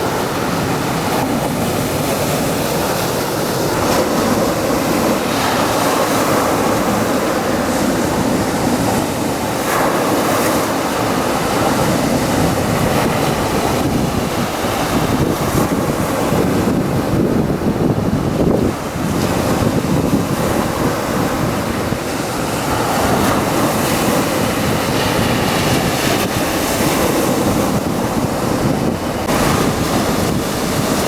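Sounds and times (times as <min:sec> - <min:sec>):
sea waves breaking on beach: 0:00.0 - 0:31.0
wind buffeting microphone: 0:00.0 - 0:31.0.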